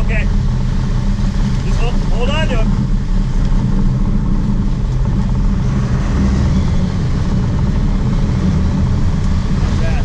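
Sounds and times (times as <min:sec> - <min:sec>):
boat engines droning: 0:00.0 - 0:10.0
wind: 0:00.0 - 0:10.0.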